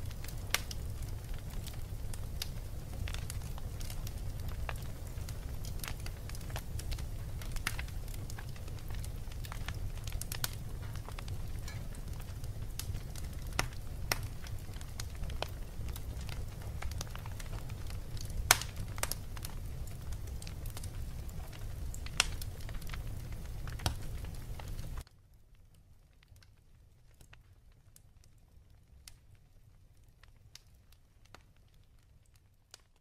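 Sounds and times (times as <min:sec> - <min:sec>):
fire crackling: 0:00.0 - 0:33.0.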